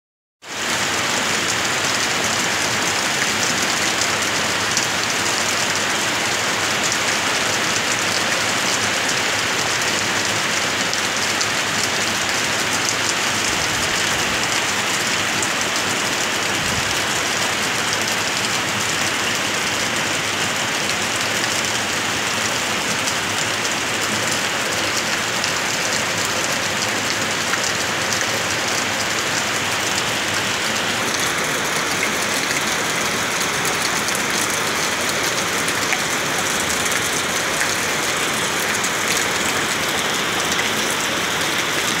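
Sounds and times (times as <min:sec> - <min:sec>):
rain on leaves and paving: 0:00.4 - 0:42.0.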